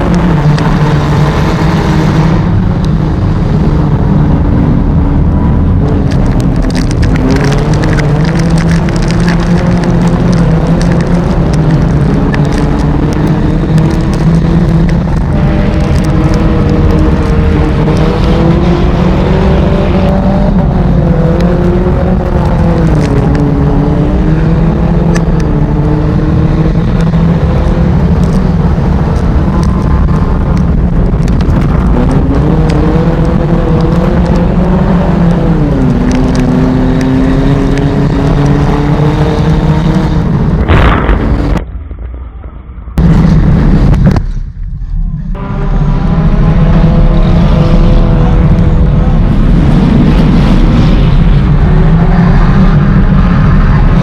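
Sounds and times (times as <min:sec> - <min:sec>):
race car engine revving: 0:00.0 - 0:41.6, 0:45.3 - 0:54.0.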